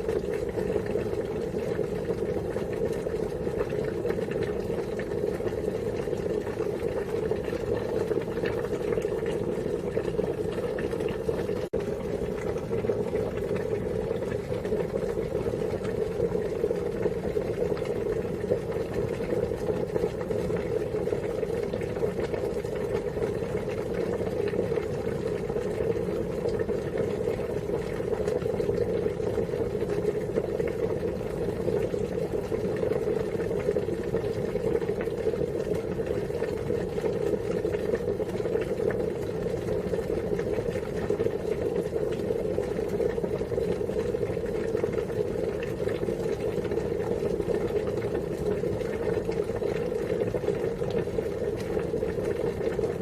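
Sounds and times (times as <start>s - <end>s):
water boiling: 0.0s - 53.0s.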